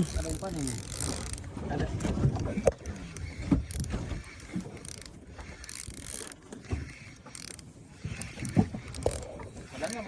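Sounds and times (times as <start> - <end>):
fishing reel winding: 0.0 - 10.0
reel clicks: 0.0 - 10.0.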